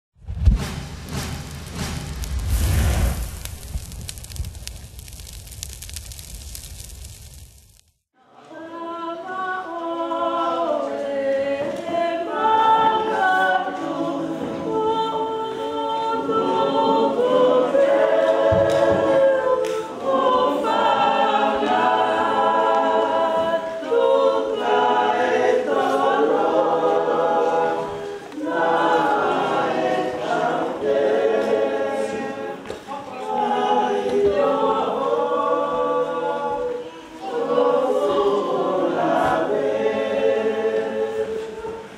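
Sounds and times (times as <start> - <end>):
choir singing in harmony: 8.2 - 41.9.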